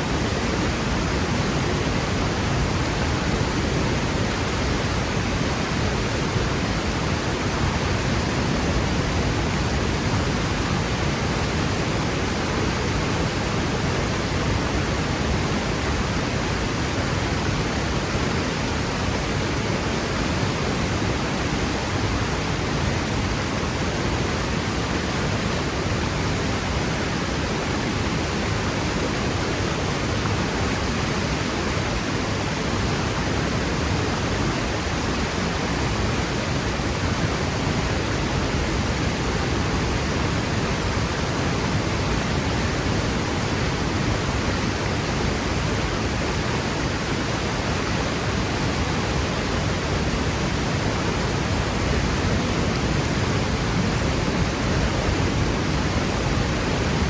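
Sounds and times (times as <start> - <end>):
waterfall roaring into pool: 0.0 - 57.0.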